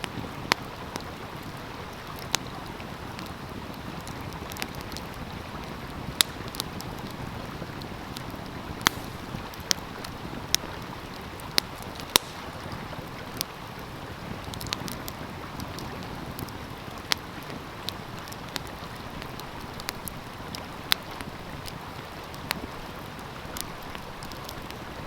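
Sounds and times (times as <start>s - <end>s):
flowing stream: 0.0s - 25.0s
wood fire crackling: 0.0s - 25.0s.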